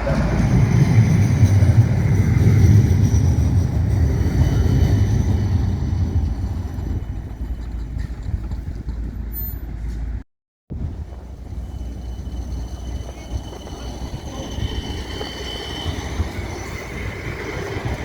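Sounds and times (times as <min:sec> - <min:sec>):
tram passing rumble: 0:00.0 - 0:18.0.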